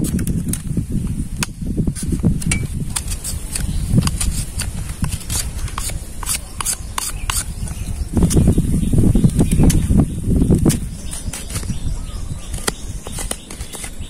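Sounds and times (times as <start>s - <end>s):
blade clicking on bamboo: 0.0s - 8.6s, 9.3s - 9.9s, 10.6s - 11.8s, 12.5s - 14.0s
knife scraping bamboo: 0.0s - 8.6s, 10.6s - 14.0s.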